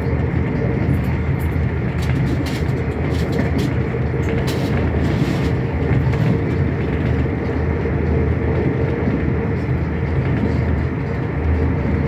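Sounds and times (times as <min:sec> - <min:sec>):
constant hum: 0:00.0 - 0:12.0
train wheels rumbling on rail: 0:00.0 - 0:12.0.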